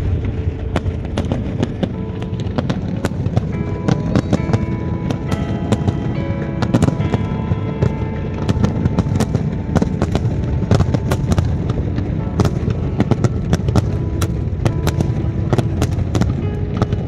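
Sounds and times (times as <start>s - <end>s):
continuous rumble: 0.0s - 17.0s
fireworks bangs and crackles: 0.0s - 17.0s.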